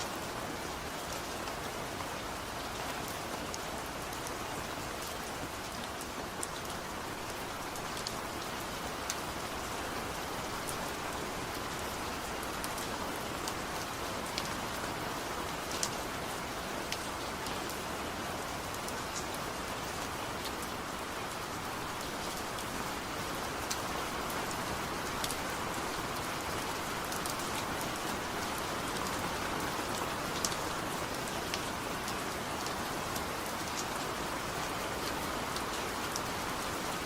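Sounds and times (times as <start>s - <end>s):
light rain falling: 0.0s - 37.0s.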